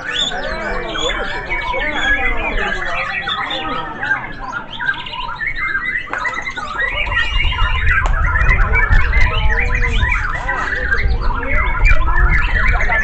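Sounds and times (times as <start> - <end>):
birds singing whistles and warbles: 0.0 - 13.0.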